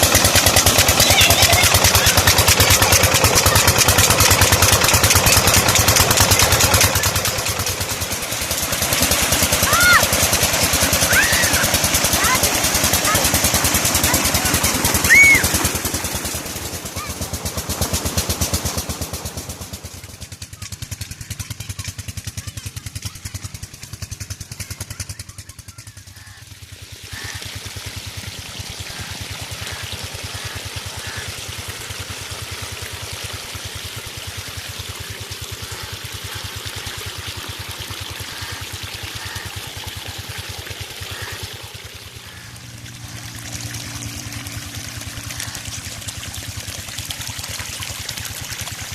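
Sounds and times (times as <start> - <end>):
diesel engine running: 0.0 - 48.9
water pouring and splashing: 0.0 - 48.9.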